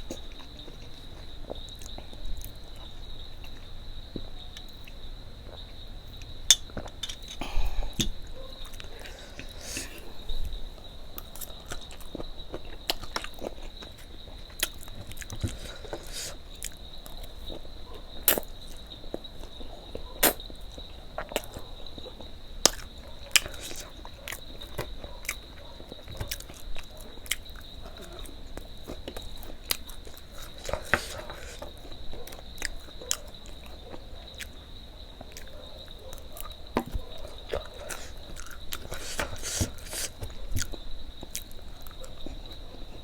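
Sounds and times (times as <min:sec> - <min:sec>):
chewing and biting food: 0:08.1 - 0:43.0.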